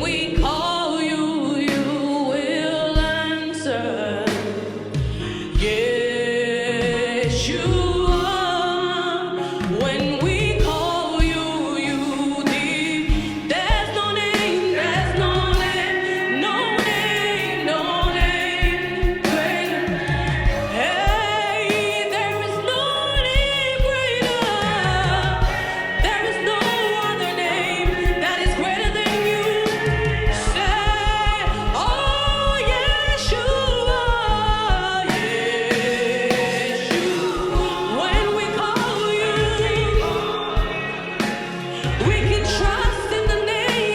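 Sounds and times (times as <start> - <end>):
drum beats: 0.0 - 1.0, 4.3 - 8.7, 9.4 - 43.9
gospel choir singing: 0.0 - 43.9
live band: 0.0 - 43.9.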